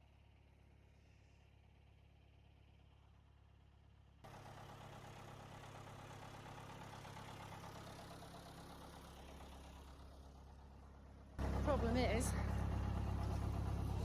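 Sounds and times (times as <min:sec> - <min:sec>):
tractor engine idling: 0:01.3 - 0:14.0.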